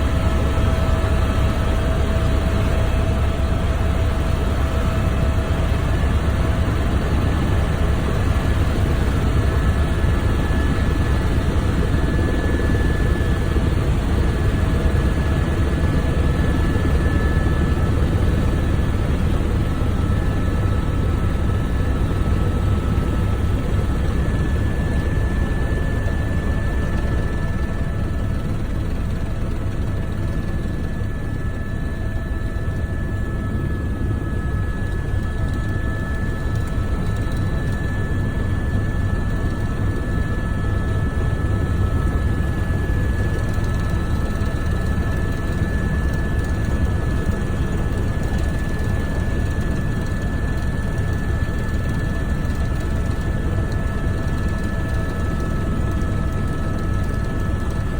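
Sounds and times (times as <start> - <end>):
helicopter rotor and engine drone: 0.0 - 57.9.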